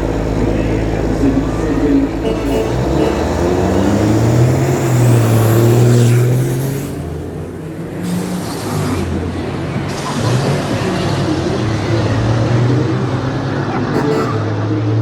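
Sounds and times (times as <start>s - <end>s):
diesel truck engine running hard: 0.0s - 15.0s.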